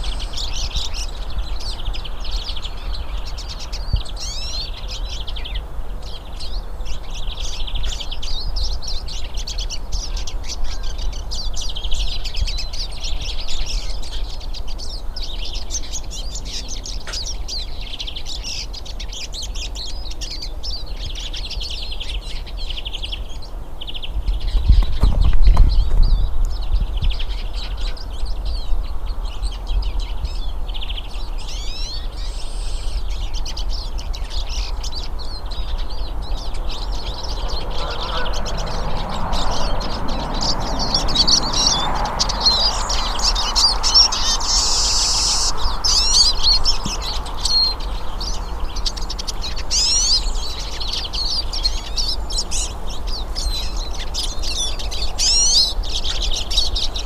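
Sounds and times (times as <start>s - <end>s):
birds twittering: 0.0s - 57.0s.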